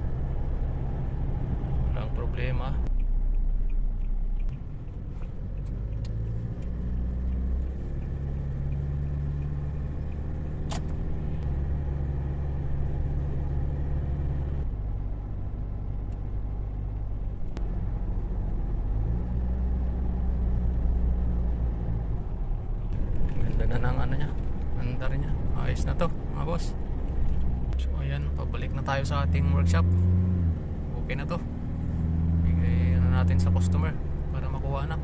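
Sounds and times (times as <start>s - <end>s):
diesel engine drone: 0.0s - 35.0s.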